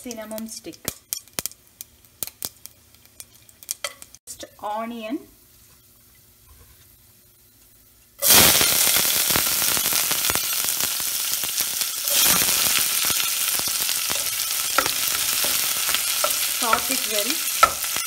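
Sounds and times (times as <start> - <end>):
onion sizzling in hot oil: 0.0 - 18.0.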